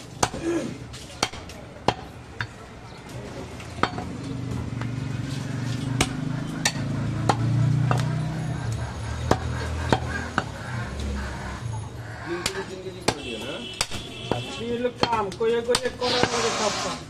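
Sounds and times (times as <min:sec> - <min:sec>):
cleaver chopping meat and bone: 0:00.0 - 0:02.6, 0:03.8 - 0:11.4, 0:12.1 - 0:16.5.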